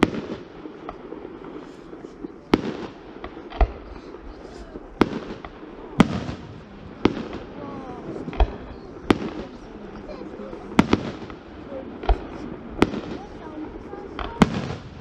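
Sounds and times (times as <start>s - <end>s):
small firework pops: 0.0s - 15.0s.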